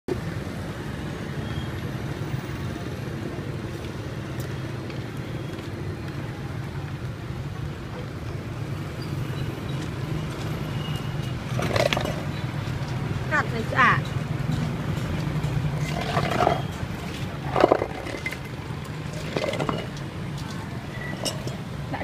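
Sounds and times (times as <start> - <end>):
road traffic rumble: 0.1 - 22.0.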